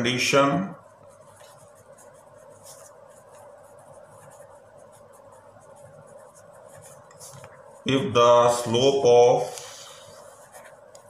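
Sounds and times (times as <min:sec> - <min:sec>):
pen scratching on paper: 0:00.0 - 0:09.2, 0:09.9 - 0:11.0
faint steady hum: 0:00.0 - 0:11.0.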